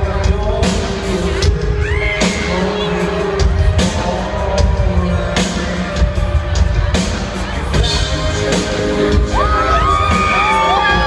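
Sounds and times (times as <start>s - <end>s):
loud pop music over sound system: 0.0s - 11.0s.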